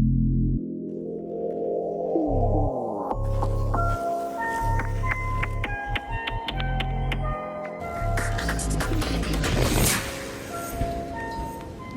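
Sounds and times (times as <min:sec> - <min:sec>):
music with held notes: 0:02.2 - 0:11.9.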